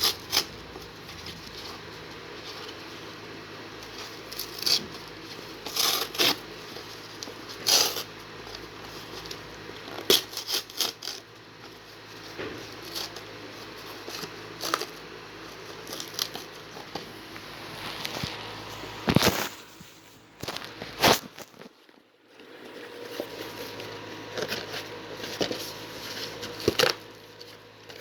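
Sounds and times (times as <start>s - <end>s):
packaging rustling: 0.0s - 22.0s, 23.0s - 28.0s.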